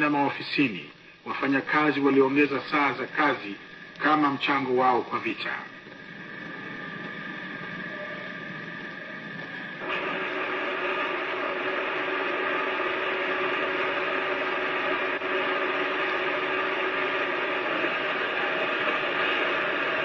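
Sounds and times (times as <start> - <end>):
steady hum with hiss: 0.0 - 20.0.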